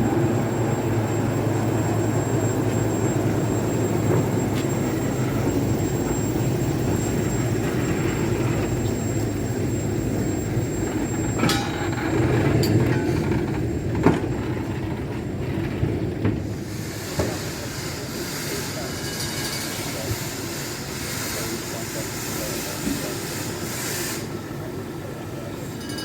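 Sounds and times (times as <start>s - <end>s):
locomotive running: 0.0s - 26.0s.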